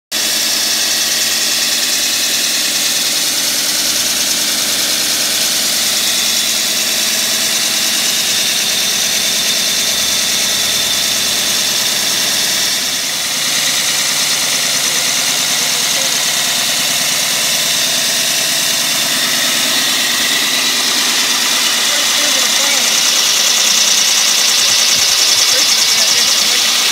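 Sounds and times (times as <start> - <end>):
core drill motor running: 0.1 - 26.9.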